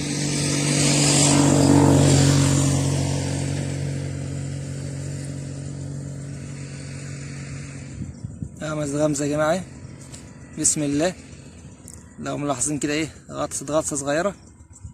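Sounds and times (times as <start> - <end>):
road noise hiss: 0.0 - 14.7
vehicle engine passing by: 0.0 - 14.9.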